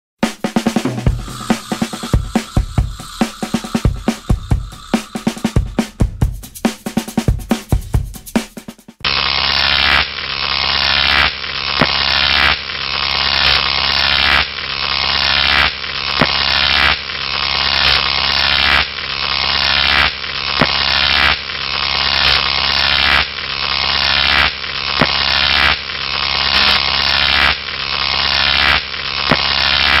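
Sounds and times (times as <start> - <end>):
electric arc buzzing crackle: 0.8 - 6.0, 9.0 - 30.0.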